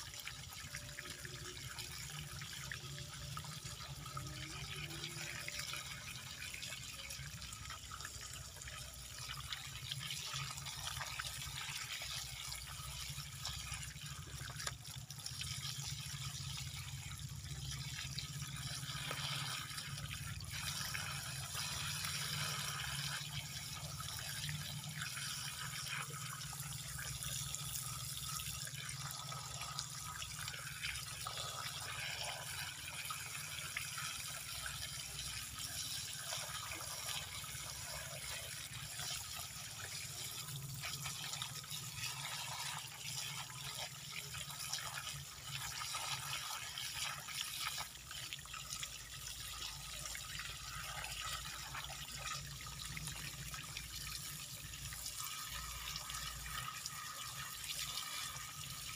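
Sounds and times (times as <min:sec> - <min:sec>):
water splashing from hose: 0:02.0 - 0:58.9.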